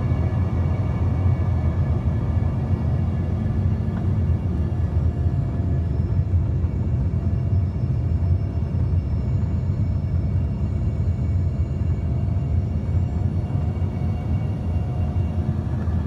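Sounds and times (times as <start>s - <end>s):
airplane low rumble: 0.0s - 16.0s.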